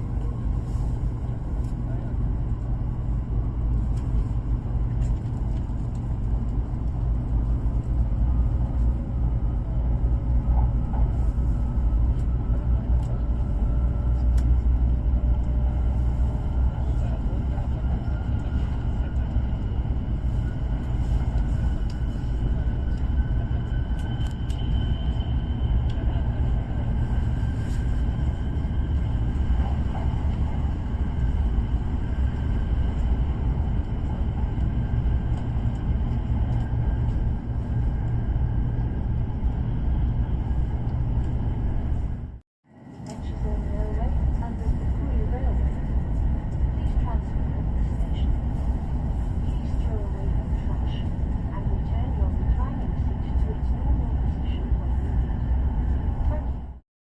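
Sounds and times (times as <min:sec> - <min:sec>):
electric train rumbling: 0:00.0 - 0:56.8.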